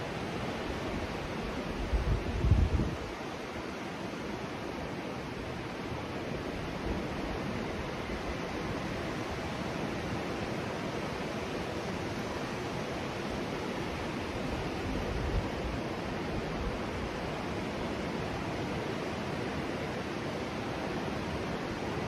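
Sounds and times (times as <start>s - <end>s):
rushing outdoor ambient noise: 0.0s - 22.0s.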